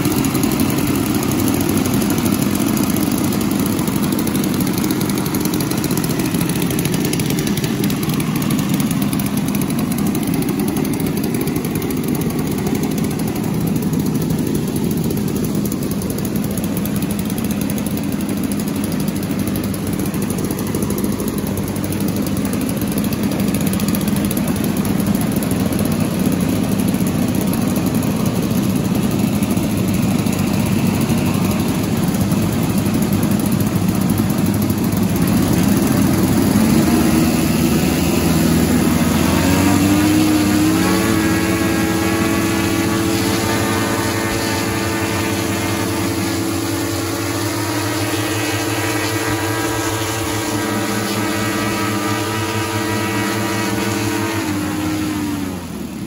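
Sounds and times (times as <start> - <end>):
model airplane engines running: 0.0 - 56.0.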